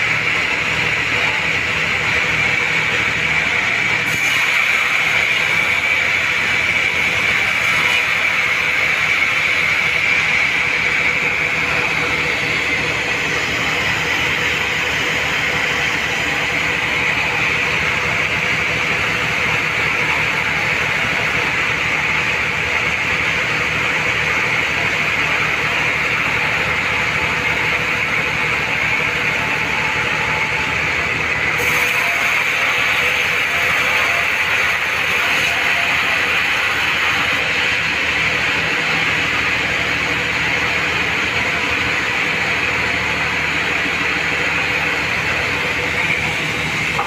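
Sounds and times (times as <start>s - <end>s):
band saw cutting wood: 0.0s - 47.0s
high machine whine: 0.0s - 47.0s.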